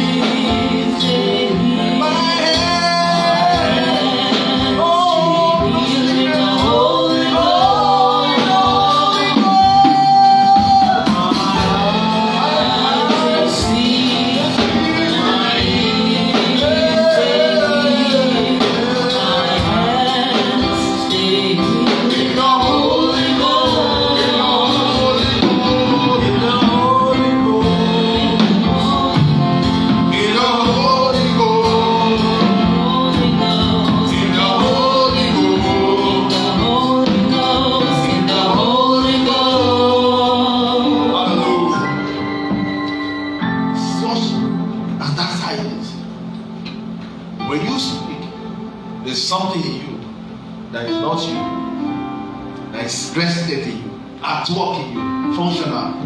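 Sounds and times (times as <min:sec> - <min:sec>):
gospel choir singing: 0:00.0 - 0:56.0
instrumental accompaniment: 0:00.0 - 0:56.0.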